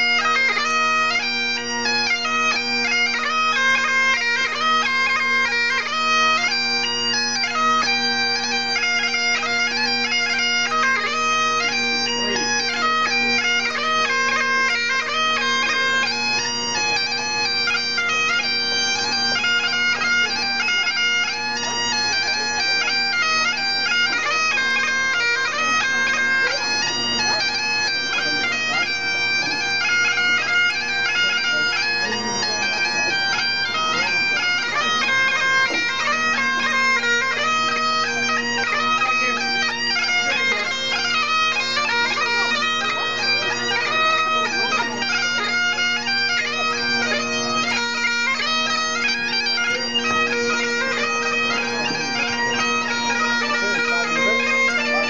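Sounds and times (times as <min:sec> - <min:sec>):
bagpipes playing: 0:00.0 - 0:55.0.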